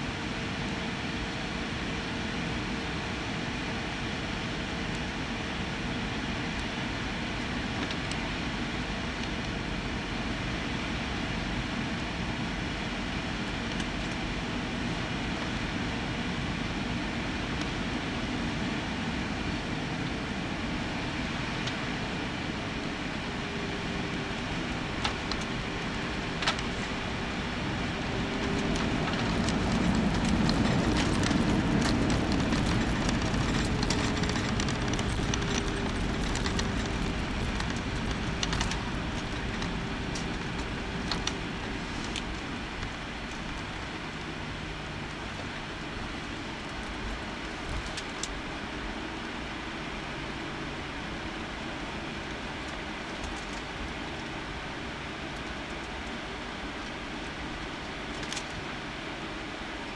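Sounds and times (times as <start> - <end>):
roar of engines and airflow: 0.0 - 59.9.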